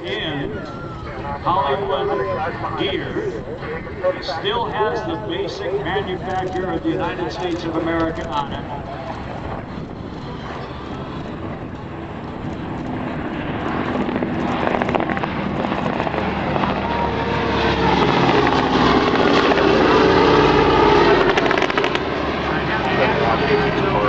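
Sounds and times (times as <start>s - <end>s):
propeller plane flying by: 0.0s - 24.0s.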